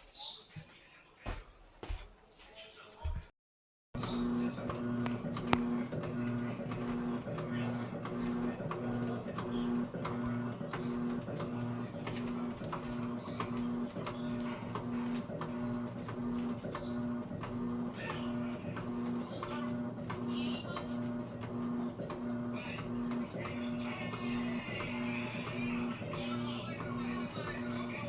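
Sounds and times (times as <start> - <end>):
washing machine motor humming: 4.0 - 28.0.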